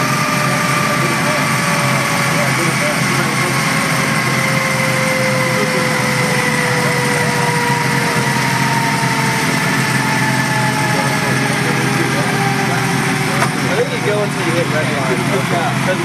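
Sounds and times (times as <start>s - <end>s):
motorcycle engine whining: 0.0s - 16.0s.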